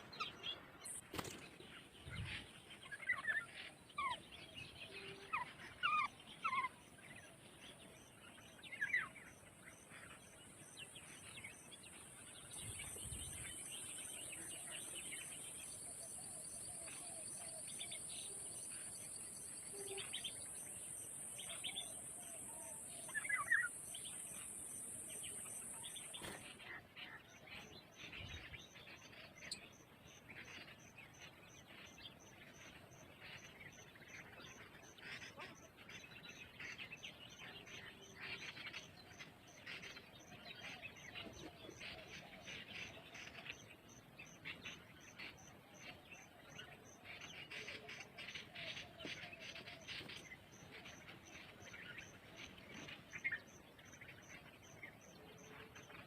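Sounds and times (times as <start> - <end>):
faint bird chirps: 0.0 - 56.0.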